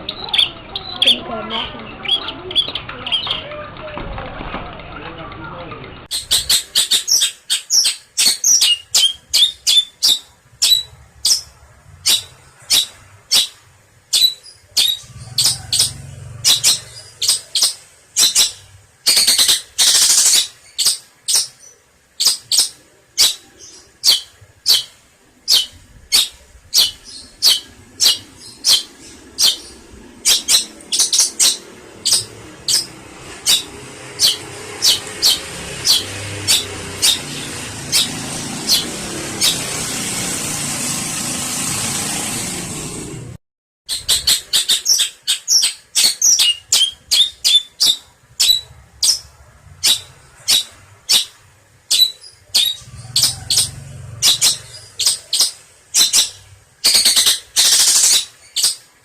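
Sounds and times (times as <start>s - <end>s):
shrike calling: 6.1s - 39.8s, 43.9s - 58.9s.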